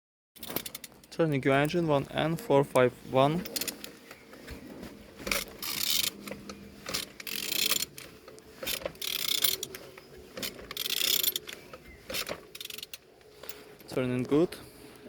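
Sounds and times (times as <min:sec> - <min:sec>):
engine mechanical clicking and rattling: 0:00.4 - 0:14.3.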